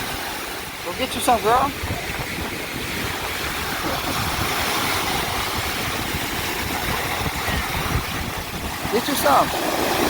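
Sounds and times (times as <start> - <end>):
ocean surf washing up beach: 0.0 - 10.0
wind thumping on microphone: 0.0 - 10.0.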